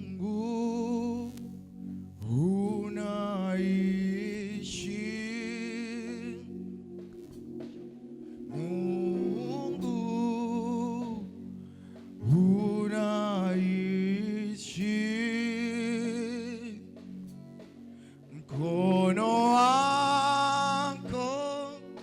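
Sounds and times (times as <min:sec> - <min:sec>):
gospel singing with vibrato: 0:00.0 - 0:22.0
steady held chord: 0:00.0 - 0:22.0.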